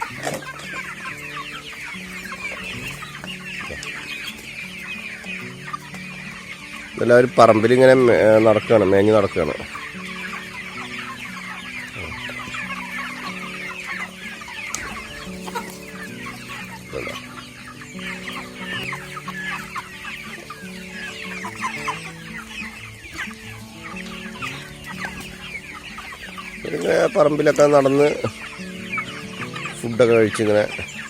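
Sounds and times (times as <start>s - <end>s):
background music with held notes: 0.0s - 31.0s
chickens peeping and clucking: 0.0s - 31.0s.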